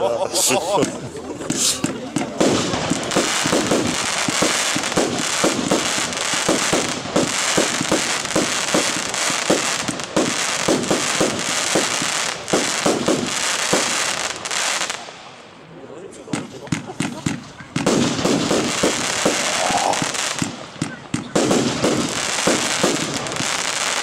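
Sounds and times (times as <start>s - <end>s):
fireworks crackle: 0.4s - 15.5s, 16.3s - 24.0s
fireworks shots and bursts: 0.8s - 15.5s, 16.3s - 24.0s.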